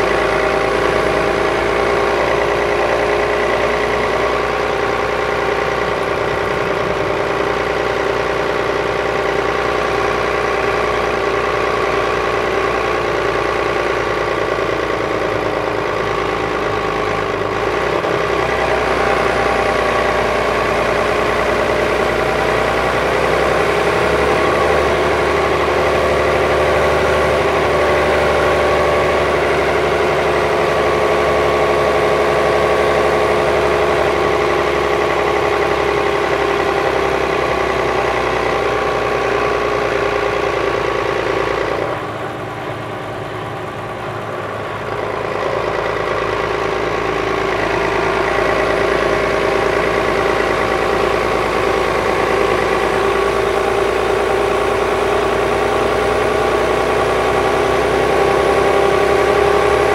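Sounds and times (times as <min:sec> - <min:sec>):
diesel bus engine idling: 0:00.0 - 0:59.9.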